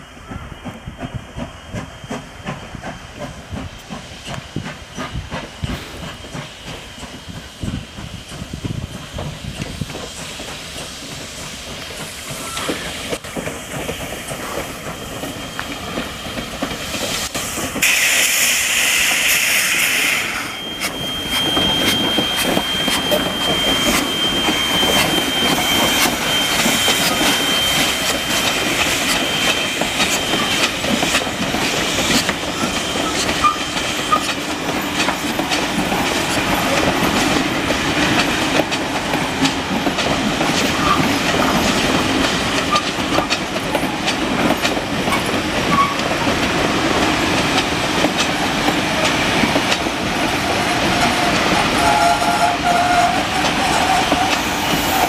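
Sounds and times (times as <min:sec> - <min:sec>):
loud steam hiss: 0:00.0 - 0:55.0
steam locomotive exhaust beats: 0:00.0 - 0:55.0
train running noise: 0:00.0 - 0:55.0.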